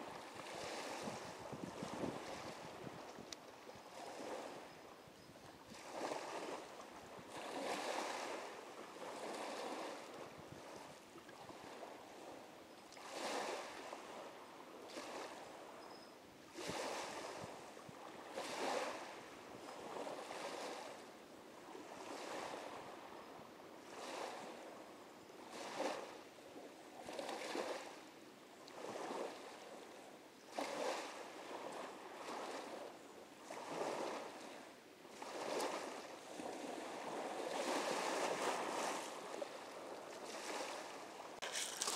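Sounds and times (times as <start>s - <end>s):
small waves lapping: 0.0s - 41.9s.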